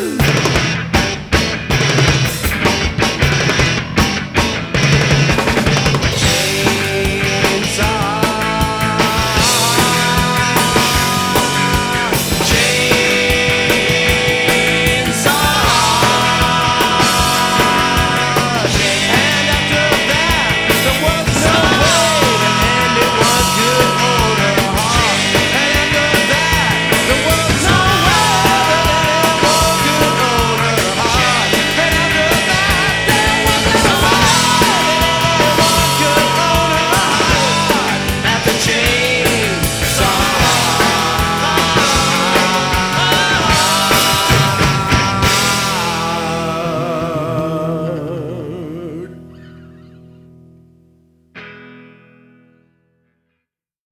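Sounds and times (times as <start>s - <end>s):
rock band playing: 0.0s - 48.2s, 51.4s - 52.5s
lead electric guitar bent notes: 0.0s - 50.7s.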